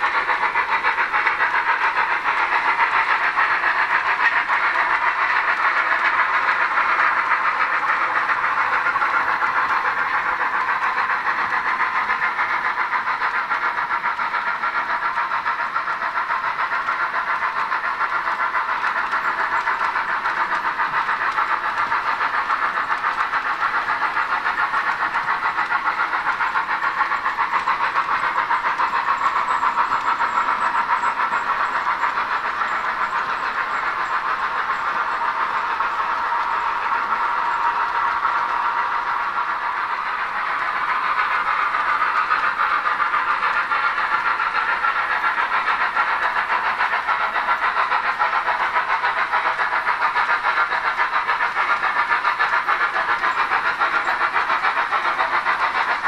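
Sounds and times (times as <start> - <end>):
model steam locomotive chuffing: 0.0 - 56.0
model train rolling on track: 0.0 - 56.0.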